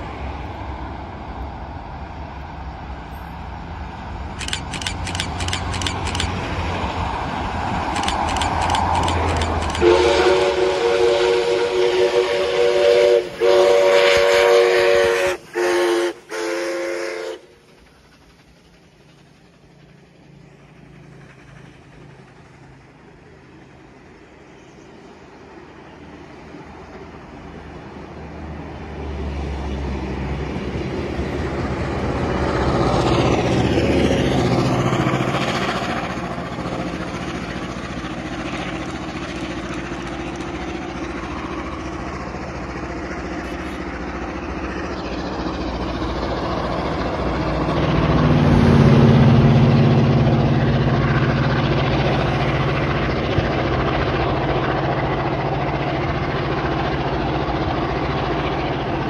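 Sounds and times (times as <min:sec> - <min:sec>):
heavy engine low drone: 0:00.0 - 0:59.0
passenger train passing: 0:00.0 - 0:59.0.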